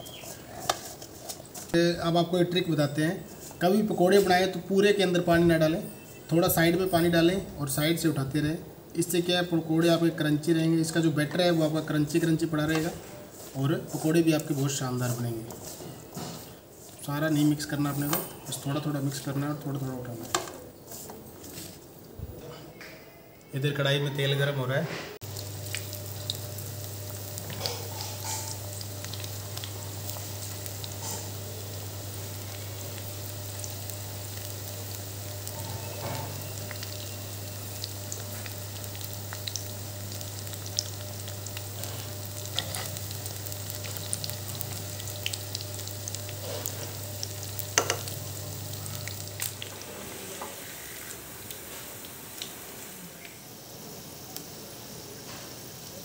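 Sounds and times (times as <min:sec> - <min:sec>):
food deep-frying in oil: 0:00.0 - 0:08.1, 0:09.0 - 0:22.2, 0:25.2 - 0:56.0.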